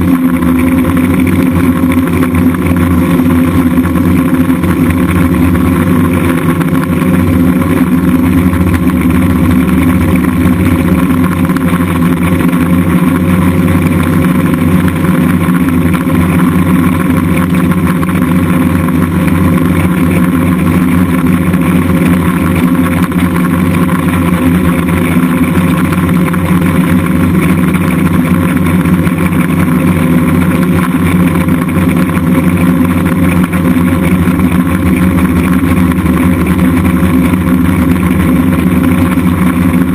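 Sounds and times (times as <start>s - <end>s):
drone motors and propellers: 0.0s - 39.9s.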